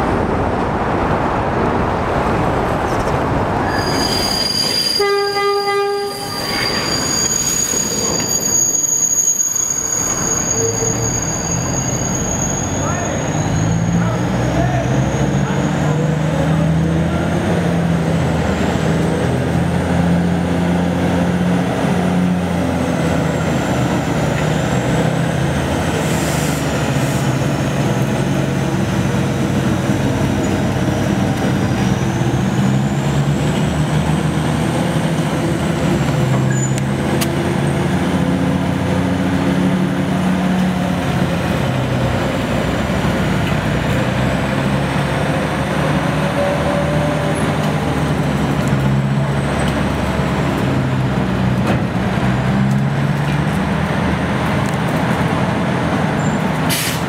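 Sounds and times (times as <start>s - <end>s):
locomotive diesel engine: 0.0s - 57.0s.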